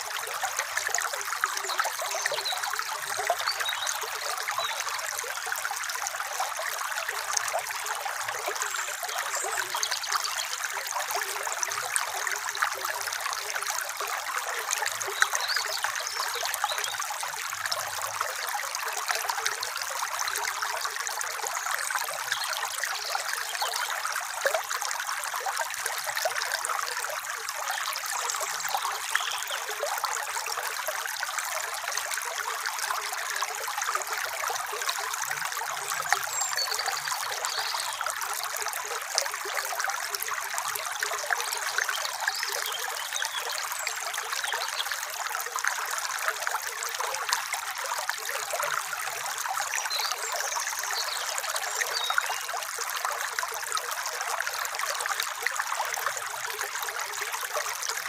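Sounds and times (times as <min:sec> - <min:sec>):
stream running over pebbles: 0:00.0 - 0:58.0.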